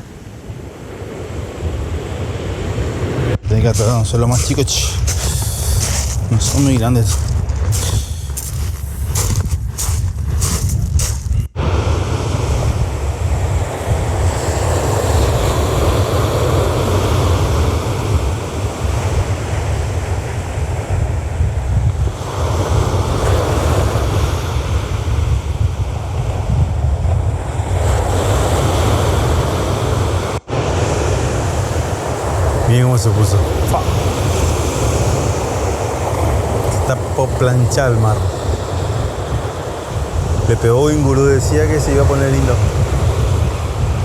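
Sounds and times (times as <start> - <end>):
sea surf breaking on beach: 0.0 - 26.5, 27.2 - 44.0
wind rumbling on microphone: 0.0 - 44.0.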